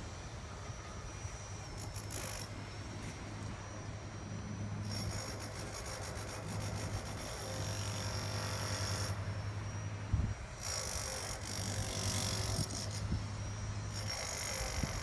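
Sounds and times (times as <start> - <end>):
construction machine hum: 0.0 - 15.0
outdoor noise: 0.0 - 15.0.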